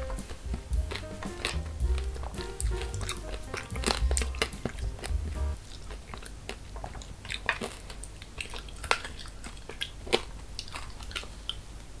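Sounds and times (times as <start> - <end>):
crunching hard candy: 0.0 - 11.6.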